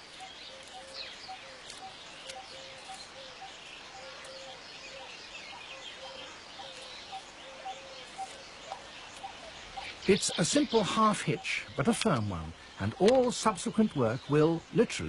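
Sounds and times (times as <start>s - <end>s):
birds chirping and chattering: 0.0s - 15.0s
low repeating bird call: 0.1s - 14.8s.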